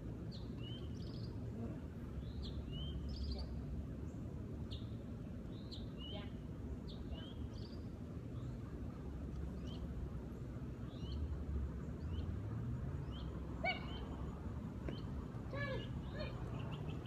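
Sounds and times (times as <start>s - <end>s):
bird chirping: 0.2s - 8.7s, 9.4s - 10.0s, 10.8s - 17.0s.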